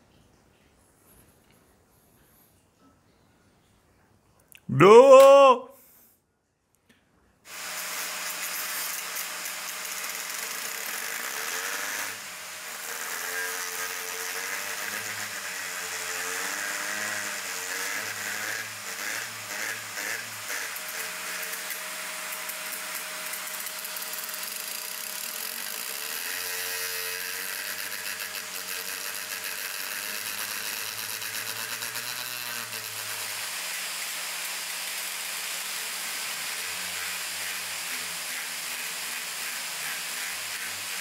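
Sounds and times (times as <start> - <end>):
angle grinder grinding metal: 7.5 - 41.0.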